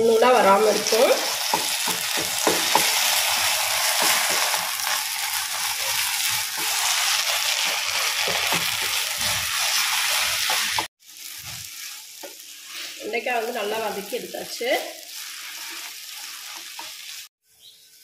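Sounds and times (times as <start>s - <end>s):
okra sizzling in a pan: 0.0s - 18.0s
wooden spatula scraping a pan: 0.6s - 17.3s.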